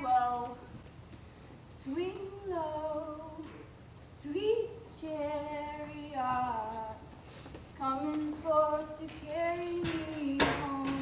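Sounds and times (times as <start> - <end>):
woman singing wordless notes: 0.0 - 0.7, 1.8 - 7.1, 7.8 - 11.0.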